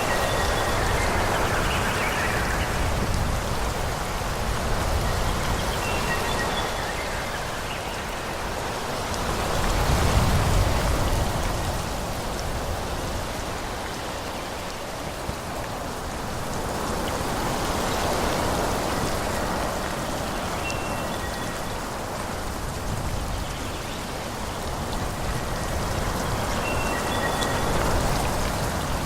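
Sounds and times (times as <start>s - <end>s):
wind rustling forest trees: 0.0s - 29.0s.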